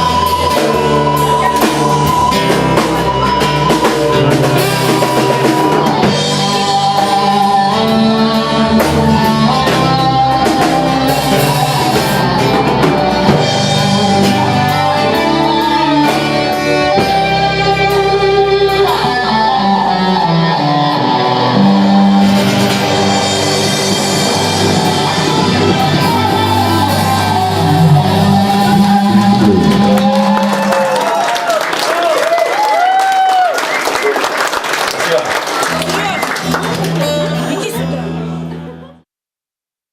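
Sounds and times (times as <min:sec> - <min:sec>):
drum kit: 0:00.0 - 0:33.4
guitar: 0:00.0 - 0:39.1.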